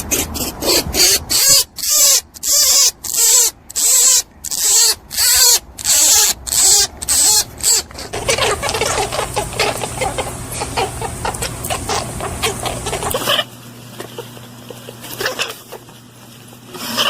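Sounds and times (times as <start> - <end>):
small animal squeaking: 0.0 - 14.3, 15.0 - 15.9, 16.7 - 17.0.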